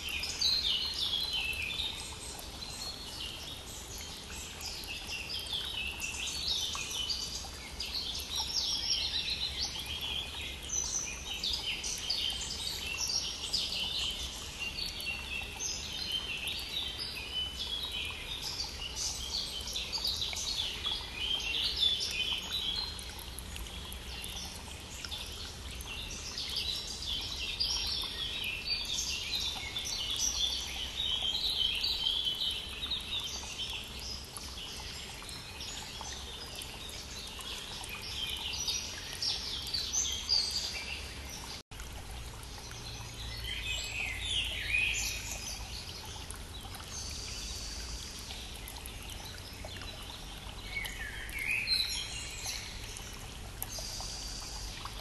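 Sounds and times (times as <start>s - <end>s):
flowing stream: 0.0s - 55.0s
songbirds chorus: 0.0s - 55.0s.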